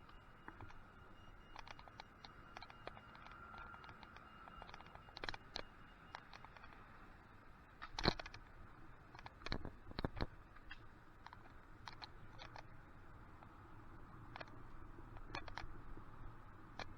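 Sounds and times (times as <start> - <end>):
faint clicks and knocks: 0.0 - 16.9
low steady background noise: 0.0 - 16.9.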